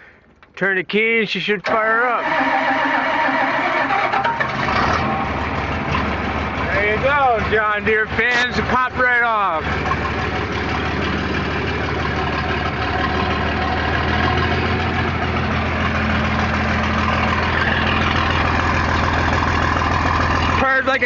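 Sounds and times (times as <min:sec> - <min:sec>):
diesel engine idling: 0:01.6 - 0:21.0.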